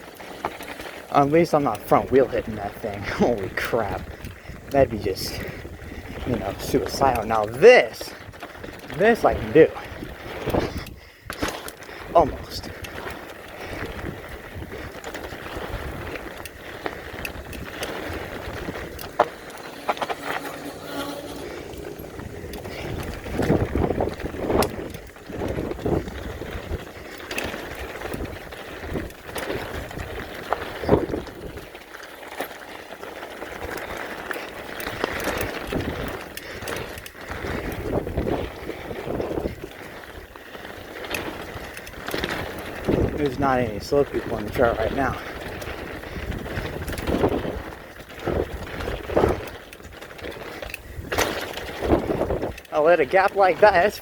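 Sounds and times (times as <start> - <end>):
bike knocking and rattling: 0.0 - 54.0
bike tyres on dirt trail: 0.0 - 54.0
wind noise: 0.2 - 54.0.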